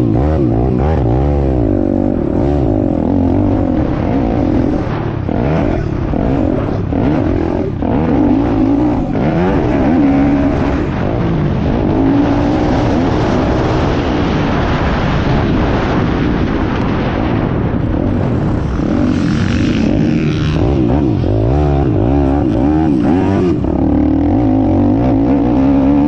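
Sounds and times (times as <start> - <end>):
motorcycle engine revving: 0.0 - 26.0
wind rushing over microphone: 0.0 - 26.0.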